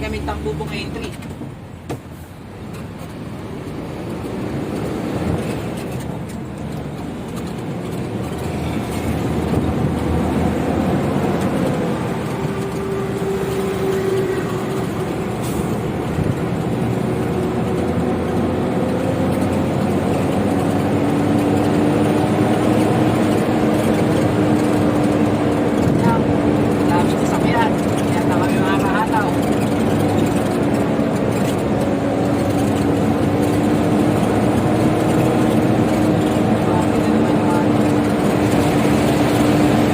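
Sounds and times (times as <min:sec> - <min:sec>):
diesel truck engine rumble: 0:00.0 - 0:39.9
road noise: 0:00.0 - 0:39.9.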